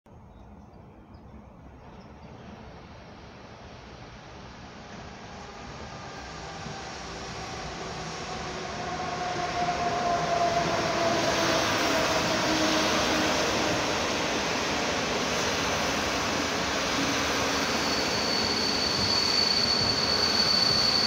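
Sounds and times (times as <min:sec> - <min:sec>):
train wheels rolling on rails: 0:02.4 - 0:21.0.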